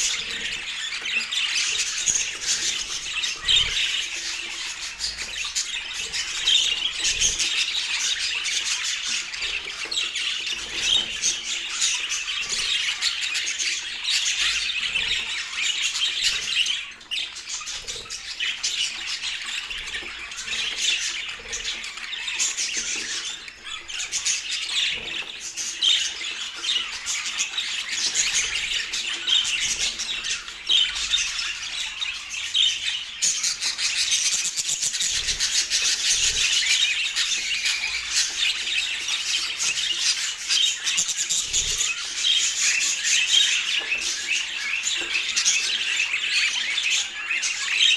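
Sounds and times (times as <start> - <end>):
budgerigars chattering and squawking: 0.0 - 47.9.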